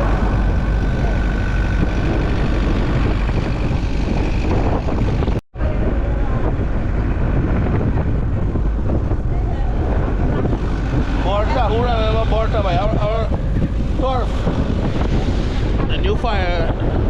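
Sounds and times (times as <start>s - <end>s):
road noise low rumble: 0.0s - 17.0s
wind buffeting microphone: 0.0s - 17.0s.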